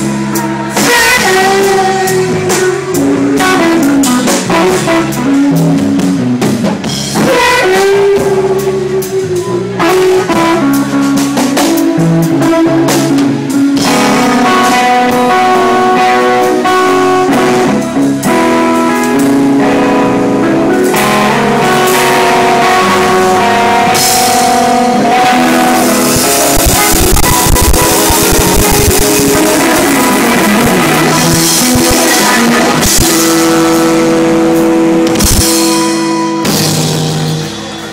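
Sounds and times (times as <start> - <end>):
rock blues guitar and drums: 0.0 - 37.9.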